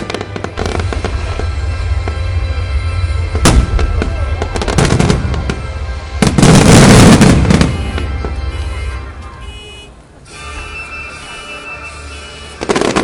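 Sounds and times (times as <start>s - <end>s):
fireworks bangs and crackling: 0.0s - 9.6s, 10.3s - 13.0s
music: 0.0s - 13.0s.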